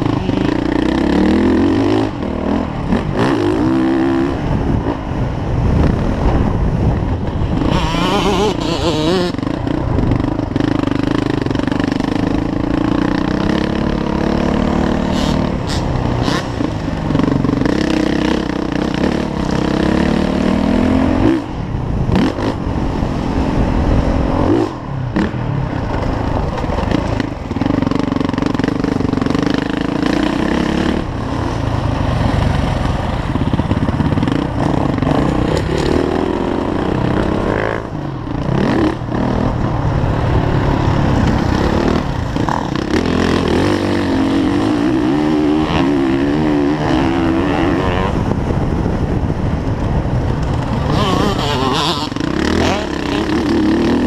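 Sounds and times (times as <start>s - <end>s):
motocross bike engine revving: 0.0s - 5.0s, 7.5s - 21.5s, 26.9s - 32.8s, 33.4s - 48.3s, 50.4s - 54.0s.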